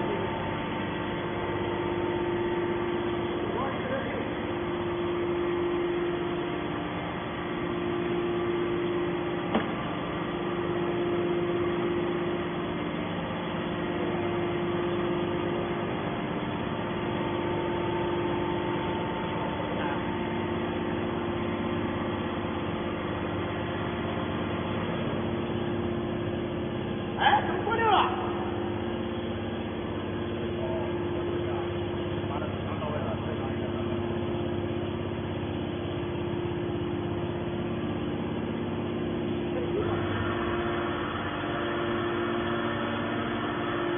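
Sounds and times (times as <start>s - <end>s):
baler motor and pump humming: 0.0s - 43.9s.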